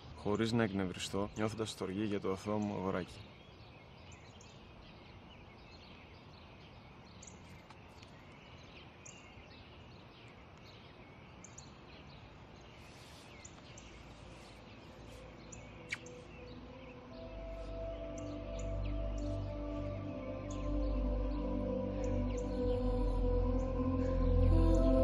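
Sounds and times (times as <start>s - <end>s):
low steady hiss: 0.0s - 25.0s
small birds chirping: 0.0s - 25.0s.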